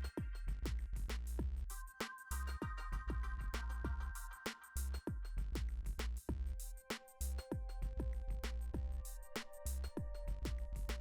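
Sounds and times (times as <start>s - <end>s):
electronic music with driving beat: 0.0s - 11.0s.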